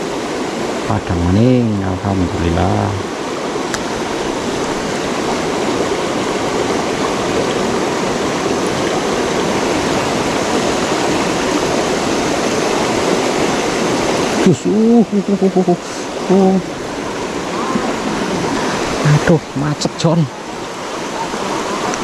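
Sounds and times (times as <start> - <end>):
river rushing over stones: 0.0 - 22.0.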